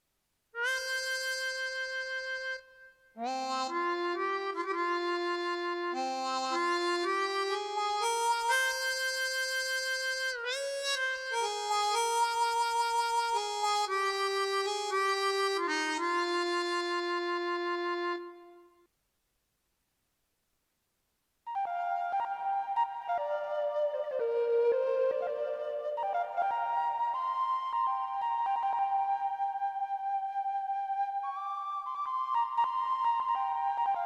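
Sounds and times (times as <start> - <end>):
keyboard playing reedy wind melody: 0.6 - 18.7, 21.5 - 34.0.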